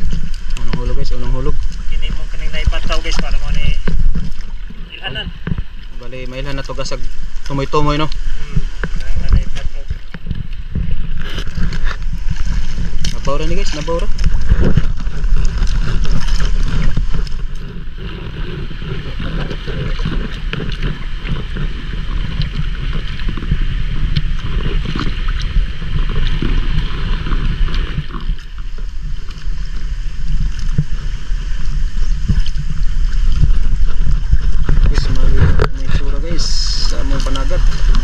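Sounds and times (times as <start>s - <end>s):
water splashing and lapping: 0.0s - 38.0s
wind buffeting microphone: 0.0s - 38.0s.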